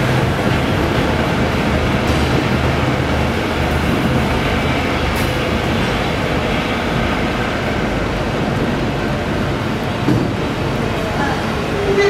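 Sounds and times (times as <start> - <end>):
train coach rumbling on track: 0.0 - 12.0.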